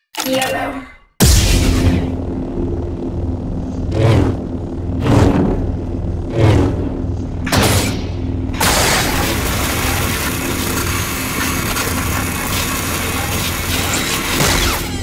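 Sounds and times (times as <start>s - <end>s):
lightsaber hum: 0.4s - 15.0s.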